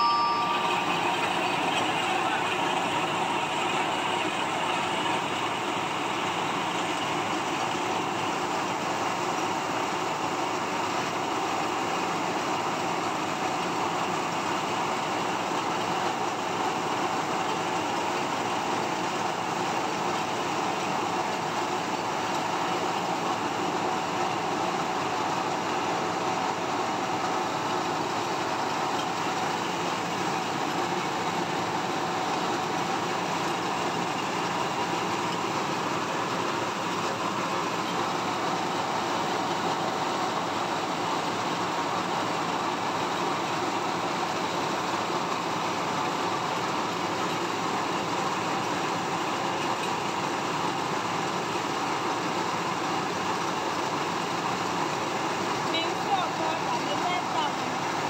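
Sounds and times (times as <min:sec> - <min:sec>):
rice milling machine running: 0:00.1 - 0:58.0.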